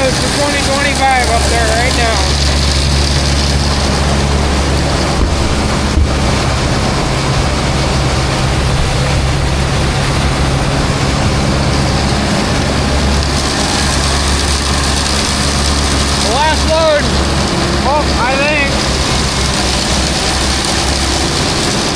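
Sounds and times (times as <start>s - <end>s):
heavy engine running: 0.0s - 21.9s.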